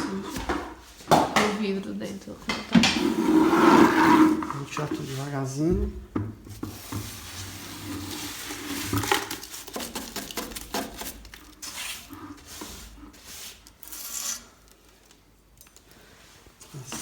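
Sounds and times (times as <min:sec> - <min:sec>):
scraping and rustling in fireplace: 0:00.0 - 0:15.2.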